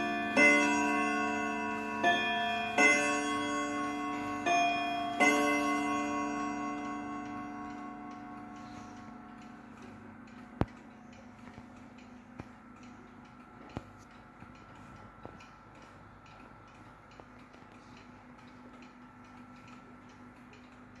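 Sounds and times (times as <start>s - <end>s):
wall clock ticking: 0.0s - 21.0s.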